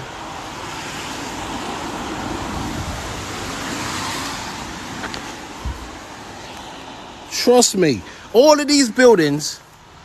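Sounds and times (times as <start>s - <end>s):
vehicle passing: 0.0s - 9.0s
road traffic rushing: 0.0s - 10.0s.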